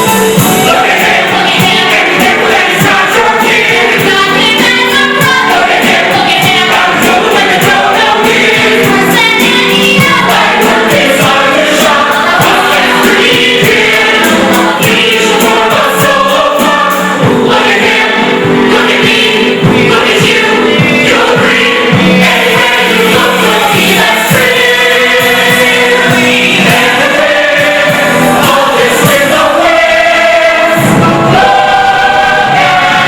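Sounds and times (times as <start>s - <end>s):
chorus singing: 0.0s - 33.0s
instrumental accompaniment: 0.0s - 33.0s.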